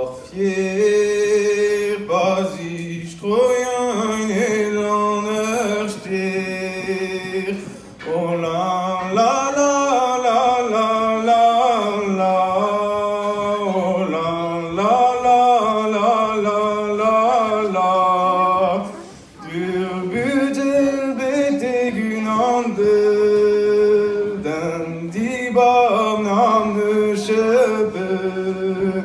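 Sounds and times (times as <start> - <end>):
man singing unaccompanied: 0.0 - 29.0.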